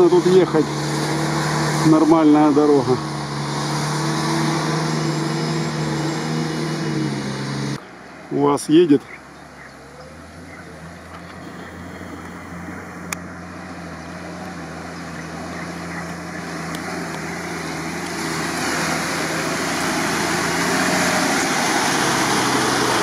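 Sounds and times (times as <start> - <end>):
off-road vehicle engine running: 0.0 - 23.0
water rushing and splashing: 0.0 - 23.0.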